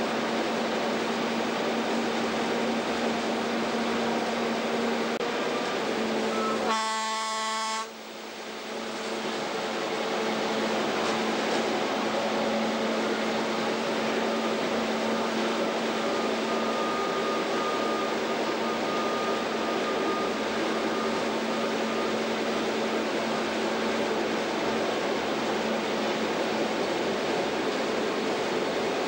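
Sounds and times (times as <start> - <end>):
wheel-on-rail running noise: 0.0 - 6.8, 8.1 - 29.0
railcar engine drone: 0.0 - 29.0.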